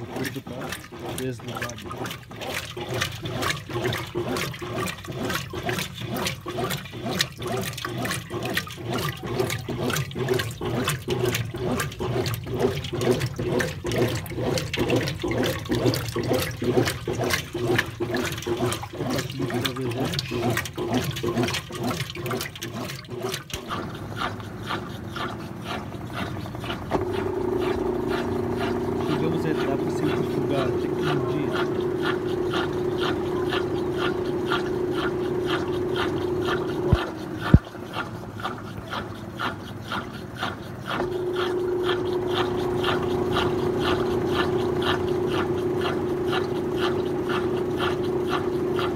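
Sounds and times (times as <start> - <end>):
washing machine motor hum: 0.0 - 48.9
washing machine water sloshing: 0.0 - 48.9.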